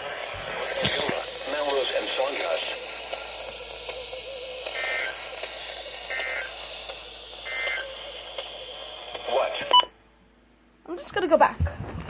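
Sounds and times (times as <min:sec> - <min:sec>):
warbling data bursts: 0:00.0 - 0:09.7
radio receiver hissing: 0:00.0 - 0:09.9.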